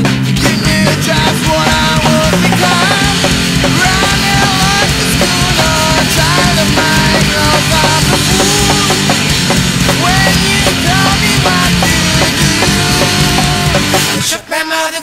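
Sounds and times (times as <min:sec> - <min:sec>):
punk rock band playing: 0:00.0 - 0:14.5.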